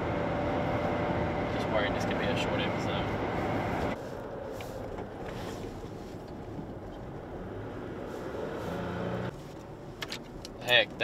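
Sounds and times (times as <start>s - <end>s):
truck road and engine noise: 0.0s - 11.0s.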